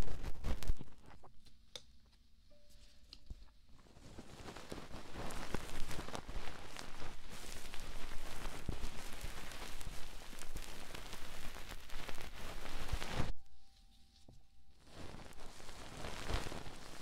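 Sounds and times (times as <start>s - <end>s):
scratching and rubbing on microphone: 0.0s - 1.4s, 3.8s - 13.3s, 14.2s - 17.0s.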